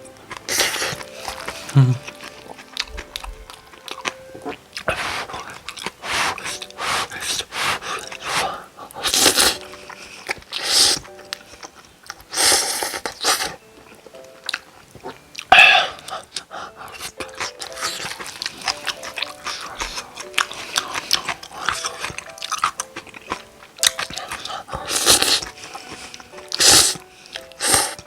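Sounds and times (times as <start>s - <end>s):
slurping and chewing noodles: 0.0s - 28.0s.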